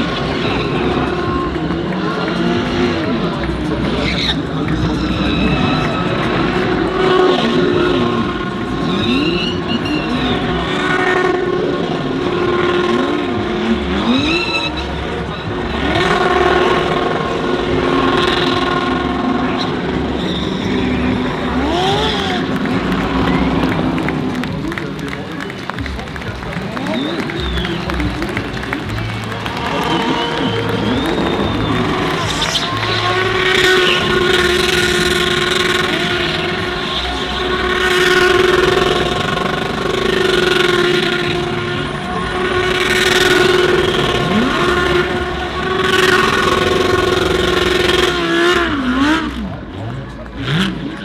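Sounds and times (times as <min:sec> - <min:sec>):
race car engines revving: 0:00.0 - 0:51.0.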